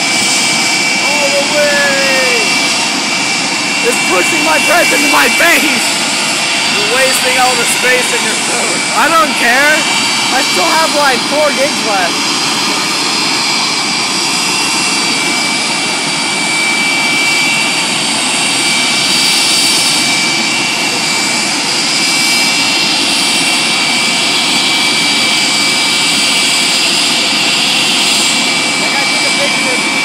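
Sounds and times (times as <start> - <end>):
jet engine roar with whine: 0.0 - 30.0.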